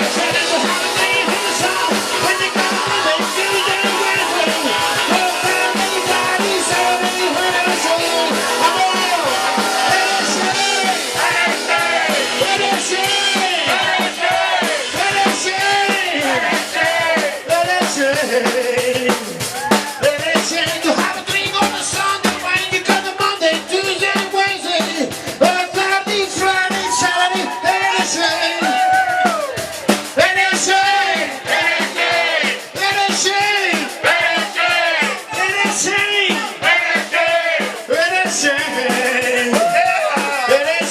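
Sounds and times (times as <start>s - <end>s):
drum kit beat: 0.0s - 40.9s
live rock band playing: 0.0s - 40.9s.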